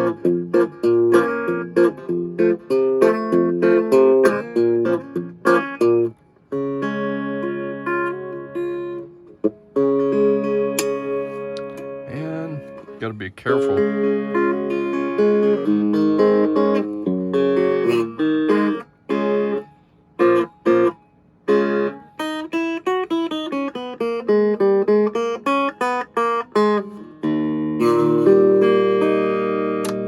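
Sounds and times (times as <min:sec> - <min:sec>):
clean electric guitar: 0:00.0 - 0:30.0.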